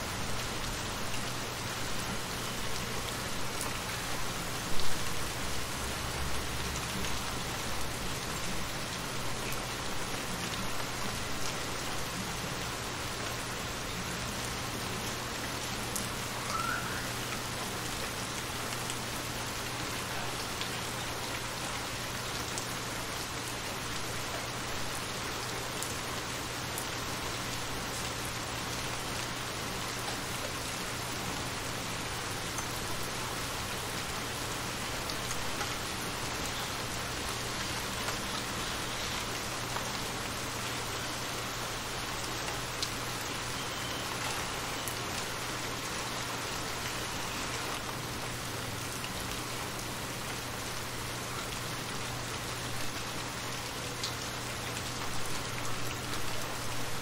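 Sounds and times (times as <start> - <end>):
rain falling on shallow water: 0.0 - 57.0.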